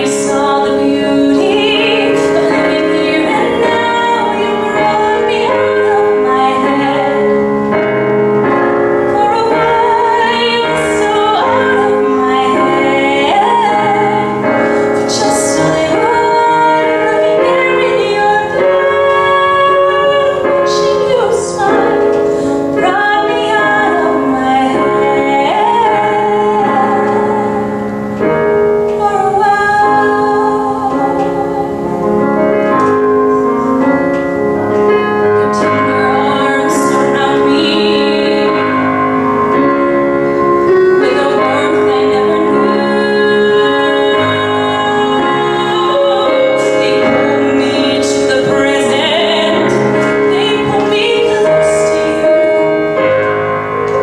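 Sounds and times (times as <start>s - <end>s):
piano accompaniment: 0.0s - 54.0s
woman singing into a microphone: 0.0s - 54.0s.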